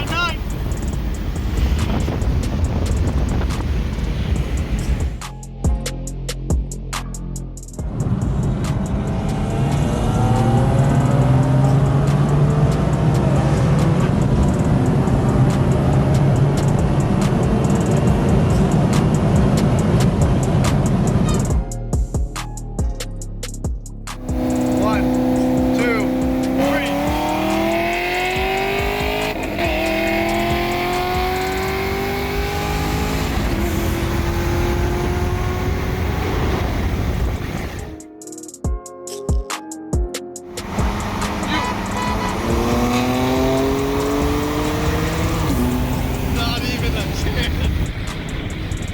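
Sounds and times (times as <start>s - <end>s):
car engine at full throttle: 0.0s - 5.2s, 7.8s - 21.6s, 24.1s - 38.0s, 40.5s - 48.9s.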